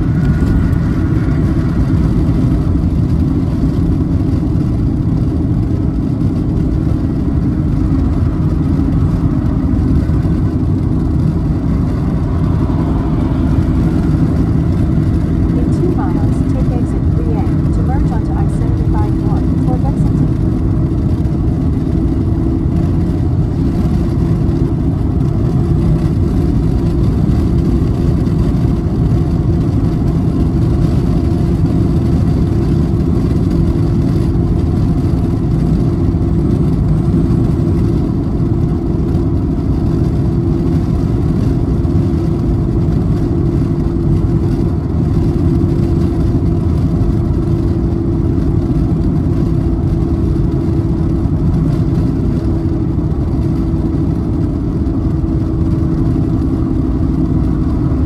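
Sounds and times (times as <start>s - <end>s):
car tyre and engine drone: 0.0s - 58.0s.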